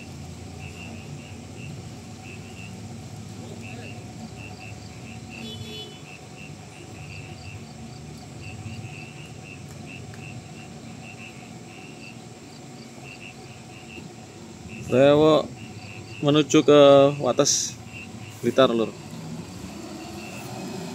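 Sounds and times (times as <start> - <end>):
crickets chirping: 0.0 - 20.9
heavy truck engine rumbling: 0.0 - 20.9.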